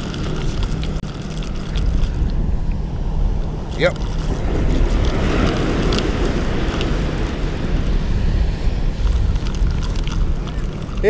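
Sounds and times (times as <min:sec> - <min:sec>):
waves washing on beach: 0:00.0 - 0:11.0
wind buffeting microphone: 0:00.0 - 0:11.0.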